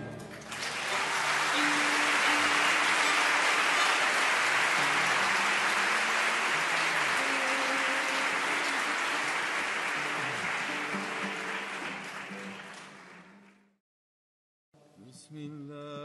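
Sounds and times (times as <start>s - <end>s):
audience applauding: 0.0s - 13.7s.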